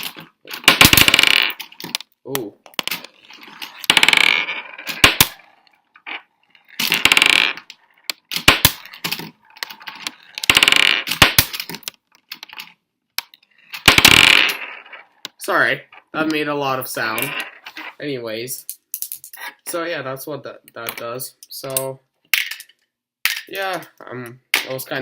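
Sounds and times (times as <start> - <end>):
metal balls clattering on plastic: 0.0 - 16.1, 18.6 - 19.5, 21.7 - 24.8.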